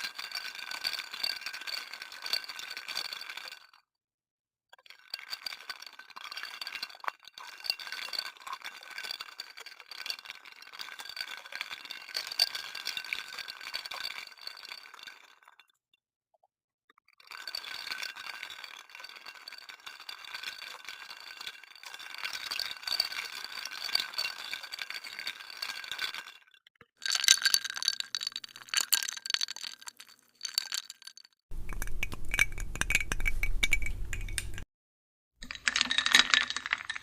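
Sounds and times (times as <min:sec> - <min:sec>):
ice cubes clinking against glass: 0:00.0 - 0:03.8, 0:04.8 - 0:15.8, 0:17.3 - 0:34.6, 0:35.4 - 0:37.0.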